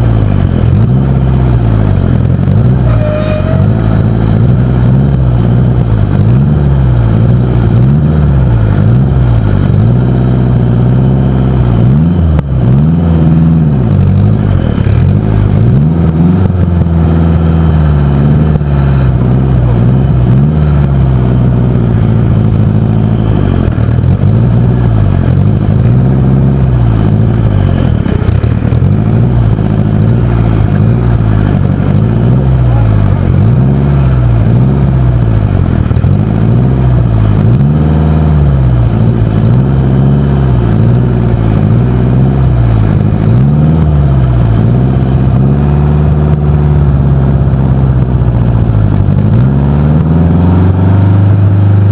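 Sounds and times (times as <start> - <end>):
tractor engine revving: 0.0 - 51.9.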